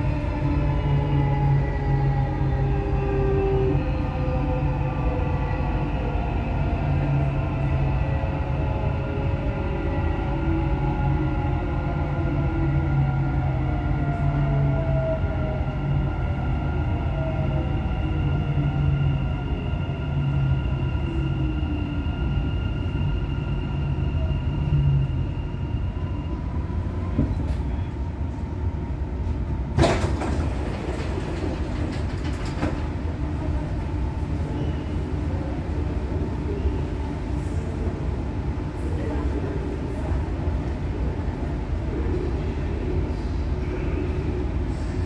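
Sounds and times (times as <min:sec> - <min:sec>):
train humming and rumbling: 0:00.0 - 0:45.0.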